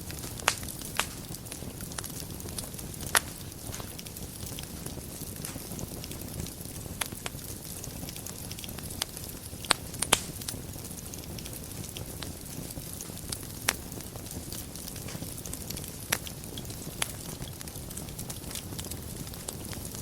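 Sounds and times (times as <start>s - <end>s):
fire crackling and popping: 0.0s - 20.0s
fire rumbling and hissing: 0.0s - 20.0s.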